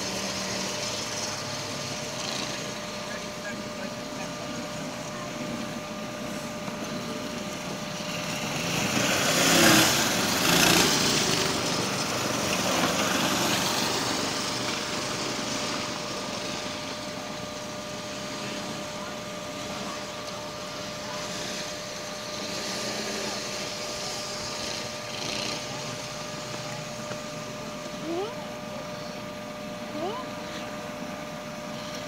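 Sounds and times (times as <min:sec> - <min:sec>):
racing engines passing: 0:00.0 - 0:27.8.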